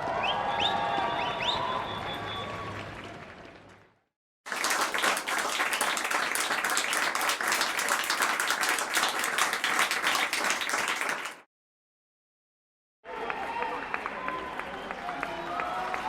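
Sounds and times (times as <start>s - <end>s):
crowd applauding: 0.0s - 11.4s, 13.1s - 16.0s.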